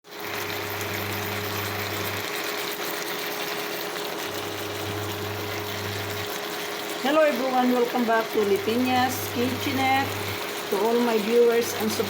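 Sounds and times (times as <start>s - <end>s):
steady machine hum: 0.3s - 12.0s.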